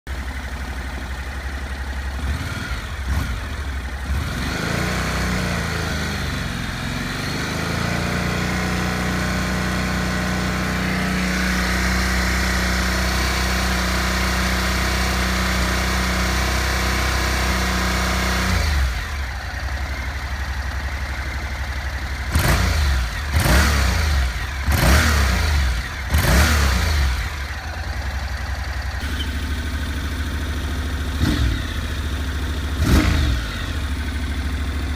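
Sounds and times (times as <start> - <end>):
motorcycle engine idling and revving: 0.1 - 34.9.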